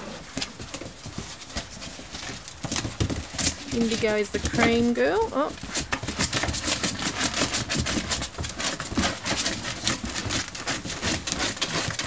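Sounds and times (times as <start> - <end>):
puppy claws scrabbling on plastic: 0.3 - 12.0.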